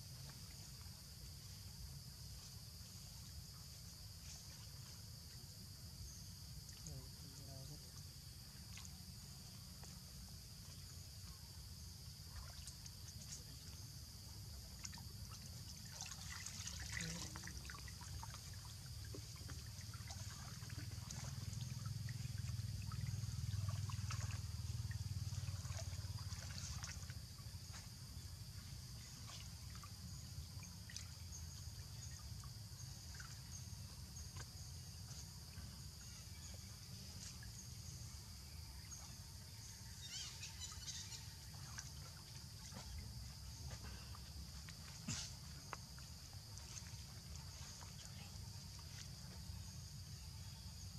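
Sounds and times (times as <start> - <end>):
water trickling and splashing: 0.0 - 50.9.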